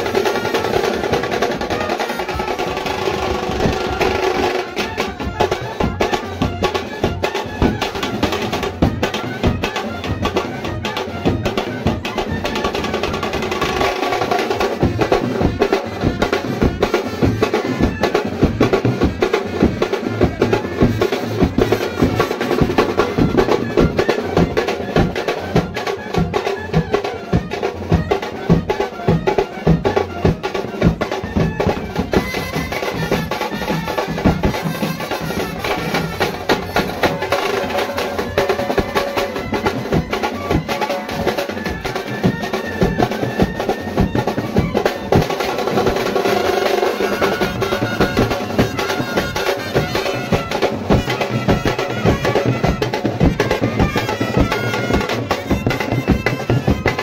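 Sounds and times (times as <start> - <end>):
bass and side drums beating: 0.0 - 57.0
clarinet and brass melody: 0.0 - 57.0.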